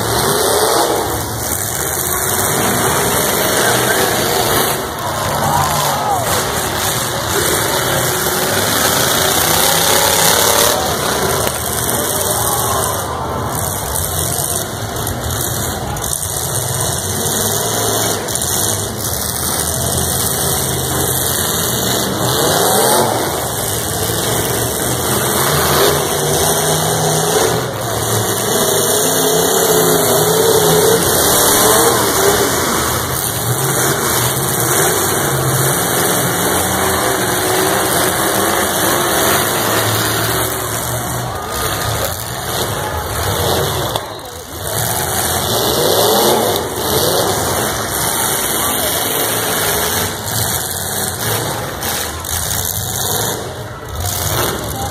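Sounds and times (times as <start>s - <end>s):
pickup truck engines revving: 0.0s - 54.9s
trucks ramming bangs: 0.0s - 54.9s.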